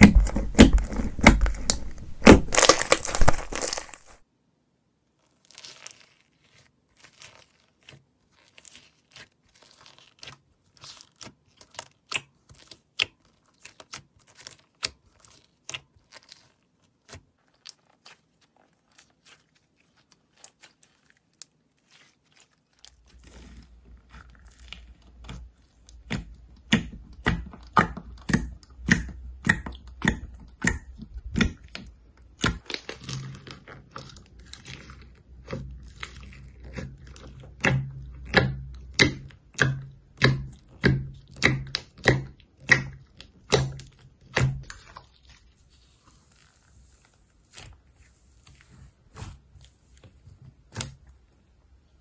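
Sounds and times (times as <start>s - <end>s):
slime squishing with wet clicks: 5.2s - 52.0s.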